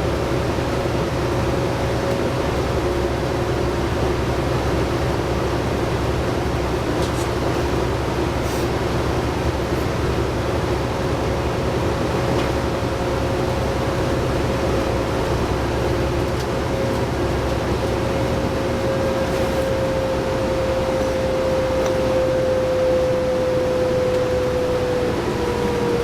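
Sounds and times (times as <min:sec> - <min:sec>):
bus engine drone: 0:00.0 - 0:26.0
steady whine: 0:00.0 - 0:26.0.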